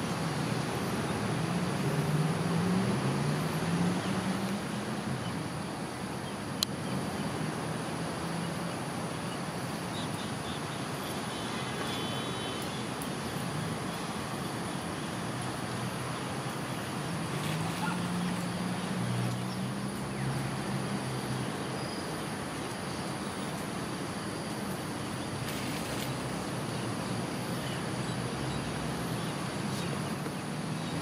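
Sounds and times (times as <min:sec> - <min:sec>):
distant traffic hum: 0:00.0 - 0:31.0.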